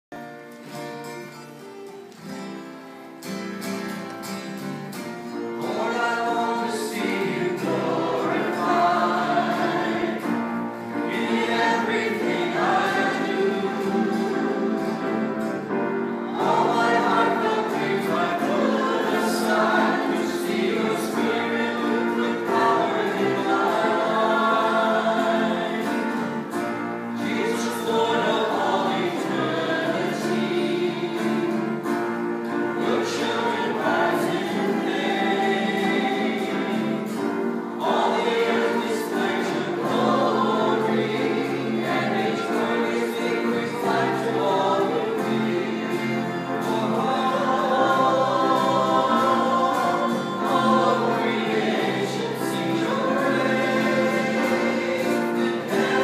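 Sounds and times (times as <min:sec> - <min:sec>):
acoustic guitars and piano: 0:00.1 - 0:56.0
voices singing together: 0:05.4 - 0:56.0.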